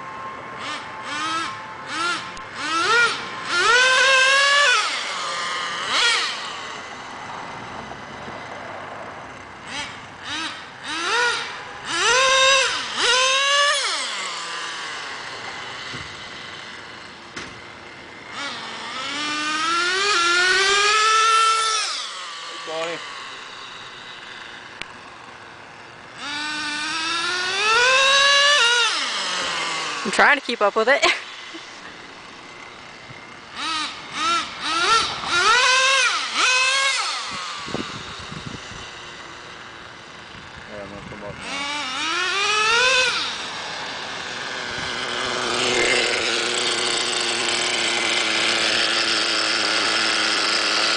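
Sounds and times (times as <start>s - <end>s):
rc car nitro engine revving: 0.0s - 50.9s.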